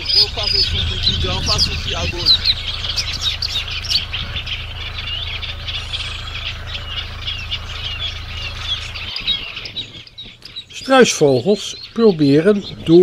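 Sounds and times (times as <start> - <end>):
steady low hum: 0.0 - 10.9
small birds chirping: 0.0 - 13.0.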